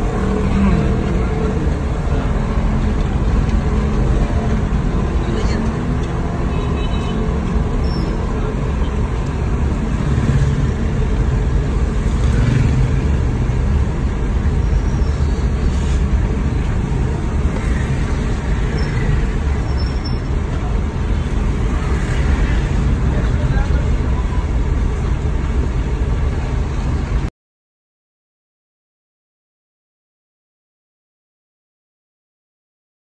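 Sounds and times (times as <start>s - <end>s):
tyres on wet road: 0.0s - 27.3s.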